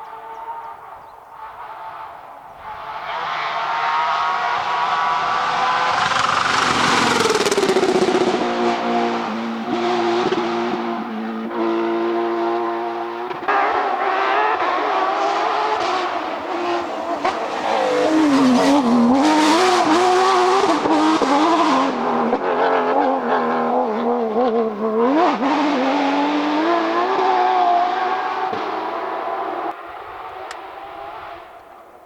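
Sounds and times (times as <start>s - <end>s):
rally car engine at full pace: 0.0s - 32.0s
rushing tyre noise: 0.1s - 32.0s.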